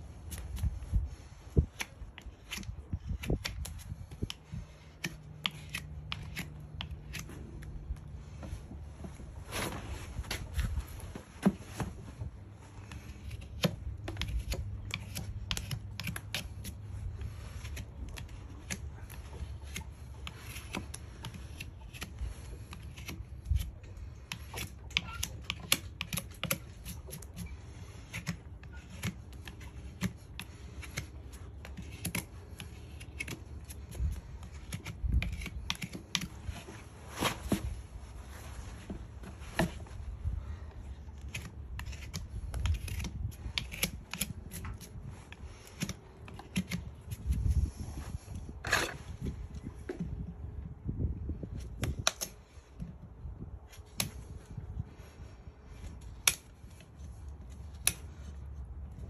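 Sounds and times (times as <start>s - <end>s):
hoof knife scraping hoof: 0.1s - 50.3s.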